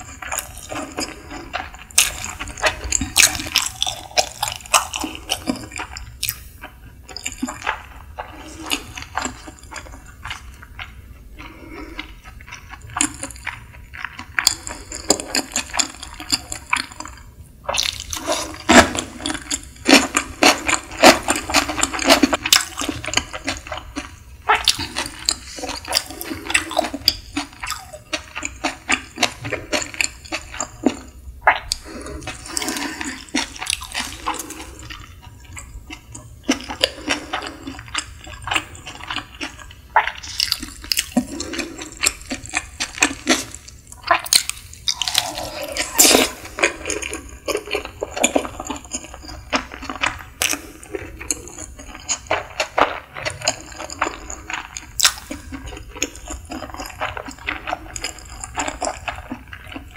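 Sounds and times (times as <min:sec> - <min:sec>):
person chewing wet smacking: 0:00.0 - 0:59.9.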